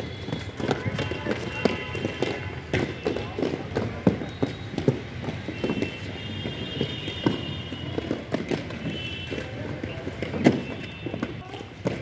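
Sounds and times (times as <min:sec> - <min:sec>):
skate wheels on concrete: 0:00.0 - 0:12.0
skates knocking down: 0:00.2 - 0:12.0.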